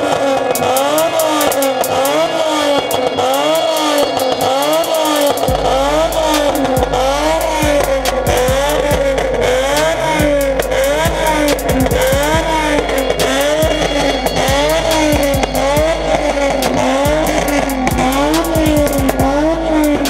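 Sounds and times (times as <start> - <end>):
car exhaust revving in quick blips: 0.0 - 20.0
music with deep bass beat: 0.0 - 20.0.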